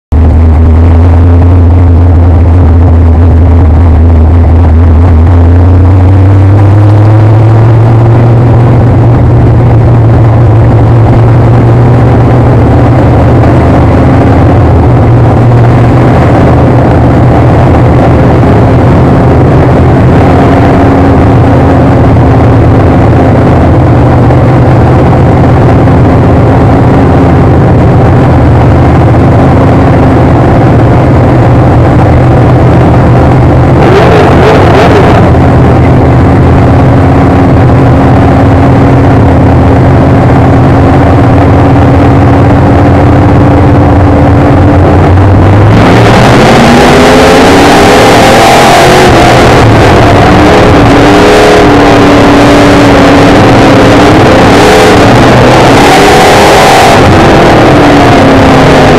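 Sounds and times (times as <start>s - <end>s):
race car engine: 0.0s - 58.9s.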